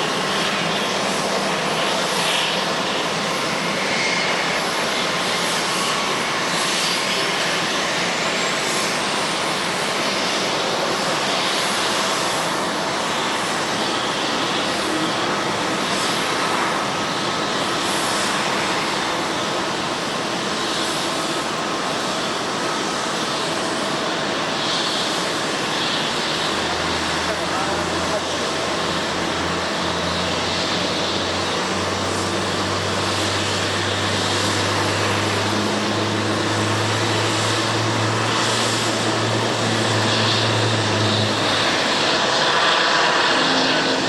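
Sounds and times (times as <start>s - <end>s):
jet engines roaring: 0.0s - 44.0s.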